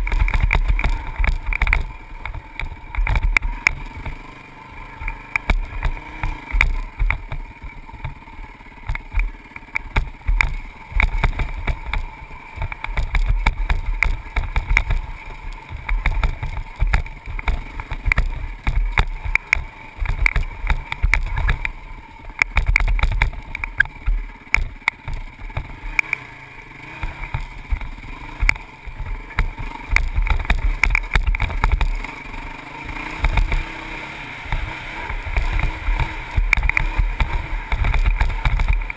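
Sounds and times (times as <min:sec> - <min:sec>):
dirt bike engine: 0:00.0 - 0:38.9
knocks and rattles from bumps: 0:05.0 - 0:26.1, 0:27.0 - 0:32.1, 0:33.1 - 0:33.8, 0:34.5 - 0:38.9.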